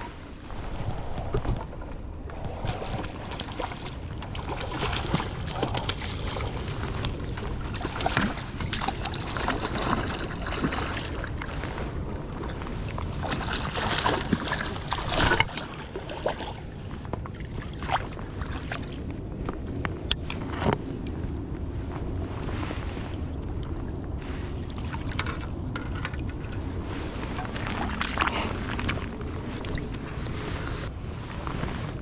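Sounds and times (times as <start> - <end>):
wind on microphone: 0.0 - 32.0.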